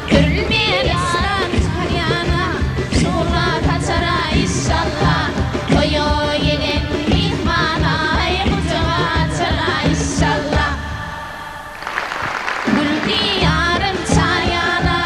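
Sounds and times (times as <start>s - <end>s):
folk song singing over beat: 0.0s - 15.0s.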